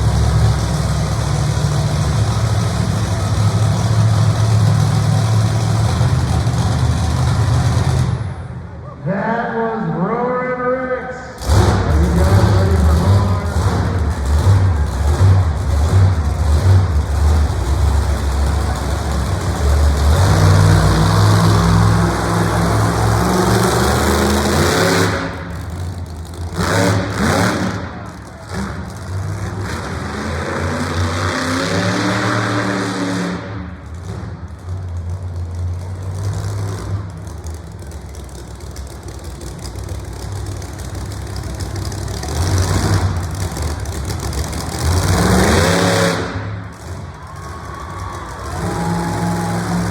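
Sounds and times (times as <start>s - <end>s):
monster truck engine revving: 0.0s - 9.0s, 11.2s - 49.9s.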